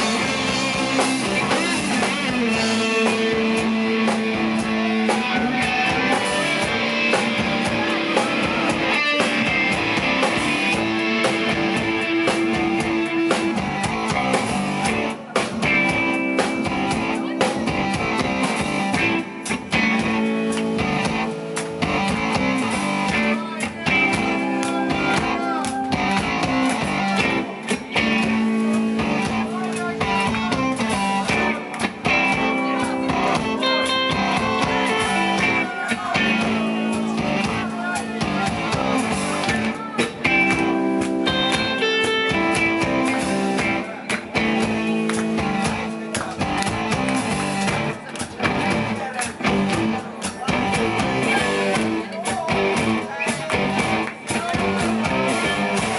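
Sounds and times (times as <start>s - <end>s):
electric guitar: 0.0s - 55.9s
rock band instrumental: 0.0s - 55.9s.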